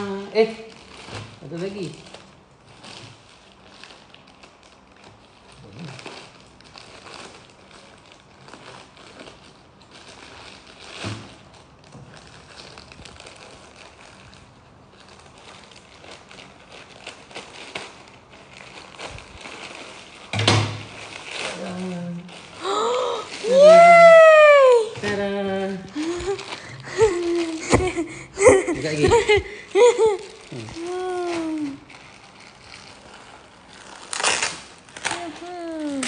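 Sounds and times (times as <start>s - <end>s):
canvas bag rustling: 0.0s - 36.0s.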